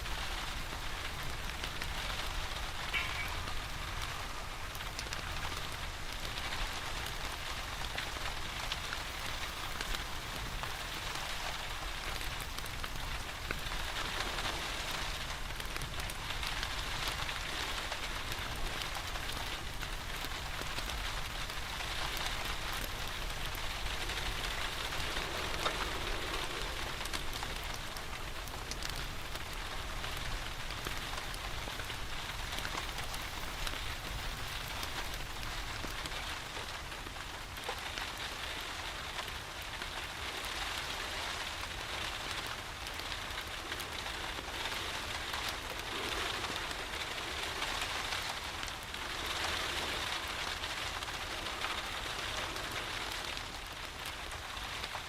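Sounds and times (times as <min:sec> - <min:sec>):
rain pattering: 0:00.0 - 0:55.0
wood fire crackling: 0:00.0 - 0:55.0.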